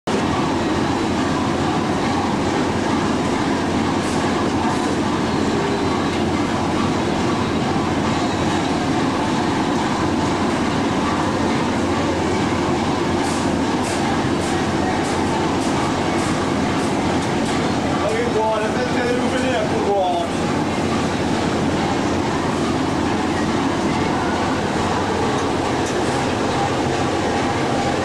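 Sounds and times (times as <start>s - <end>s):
boat engine drone: 0.1s - 28.0s.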